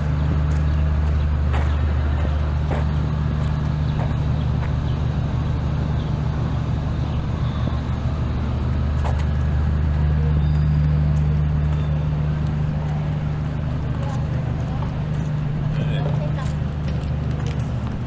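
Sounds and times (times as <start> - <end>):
city street traffic: 0.0 - 18.0
vehicle engine humming: 0.0 - 18.0.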